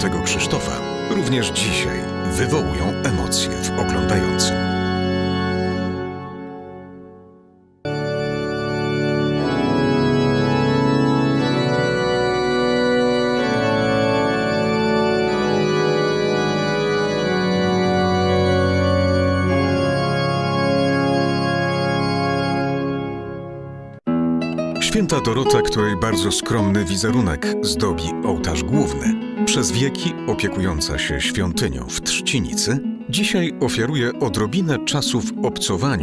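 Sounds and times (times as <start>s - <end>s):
background music: 0.0s - 36.0s
organ playing slow chords: 0.0s - 36.0s.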